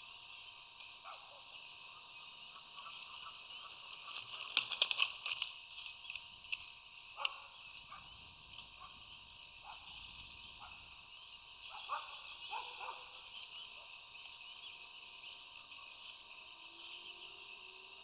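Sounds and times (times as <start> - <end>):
frogs peeping in chorus: 0.0 - 18.0.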